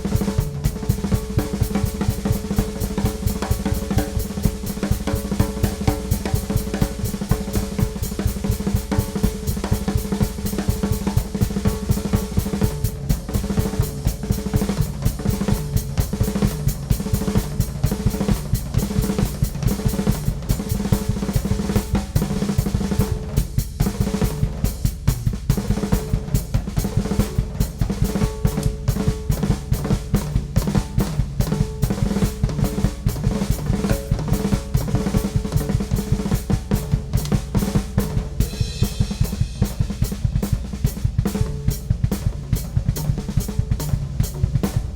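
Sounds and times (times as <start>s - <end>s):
cymbals and hi-hat: 0.0s - 30.4s, 36.7s - 44.9s
drum kit playing: 0.0s - 44.9s.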